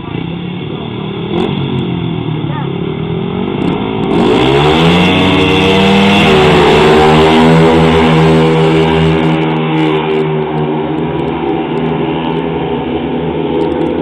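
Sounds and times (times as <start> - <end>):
motorcycle engines running hard: 0.0 - 14.0.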